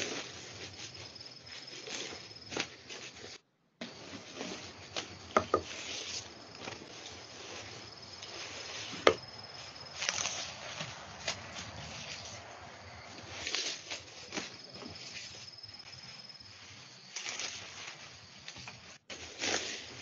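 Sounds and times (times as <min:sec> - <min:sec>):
leaves rustling: 0:00.0 - 0:20.0.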